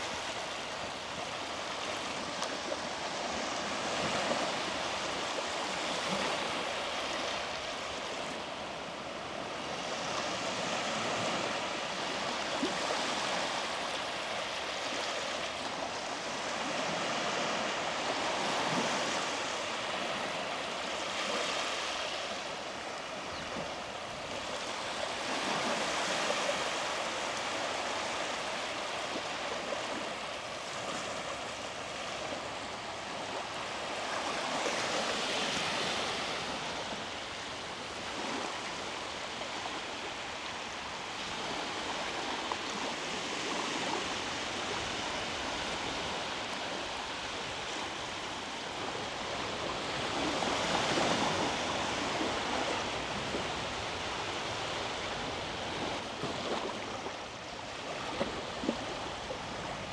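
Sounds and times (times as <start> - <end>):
small waves washing onto beach: 0.0 - 59.9.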